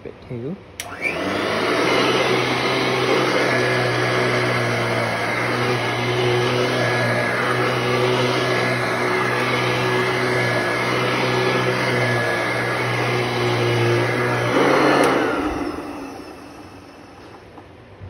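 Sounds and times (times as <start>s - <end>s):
upright vacuum running on carpet: 0.8s - 17.7s
vacuum motor winding down: 0.8s - 17.7s.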